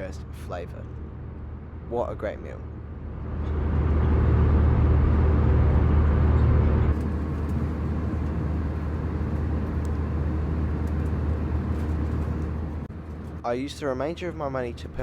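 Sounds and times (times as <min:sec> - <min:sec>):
airplane cabin hum: 0:02.6 - 0:15.0.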